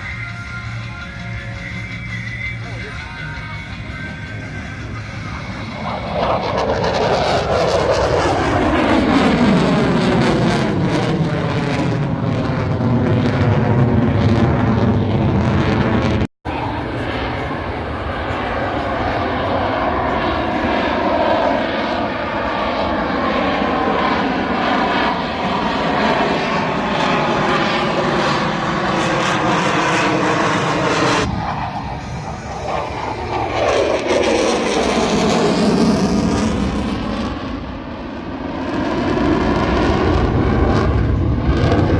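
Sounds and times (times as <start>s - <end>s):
jet aircraft roaring past: 0.0s - 41.9s.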